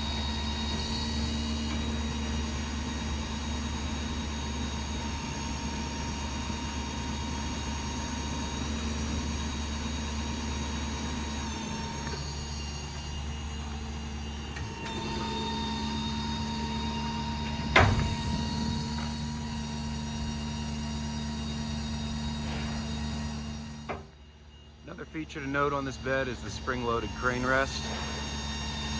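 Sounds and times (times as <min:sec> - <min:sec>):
diesel engine hum: 0:00.0 - 0:28.9
whining hydraulic drive: 0:00.0 - 0:28.9.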